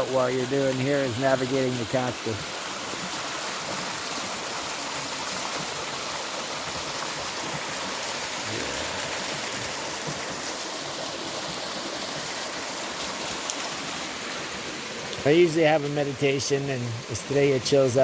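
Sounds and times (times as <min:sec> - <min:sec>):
water rushing over waterfall: 0:00.0 - 0:18.0.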